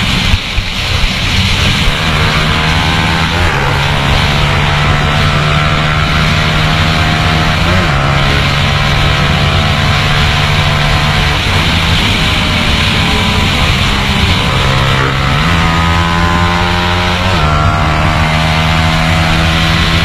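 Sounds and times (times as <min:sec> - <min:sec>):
motorcycle engine revving high: 0:00.0 - 0:20.0
wind rushing over microphone: 0:00.0 - 0:20.0.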